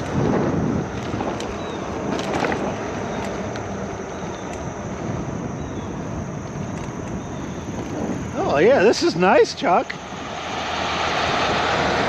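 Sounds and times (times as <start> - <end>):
bike tyres rolling on pavement: 0.0 - 12.0
wind over microphone: 0.0 - 12.0.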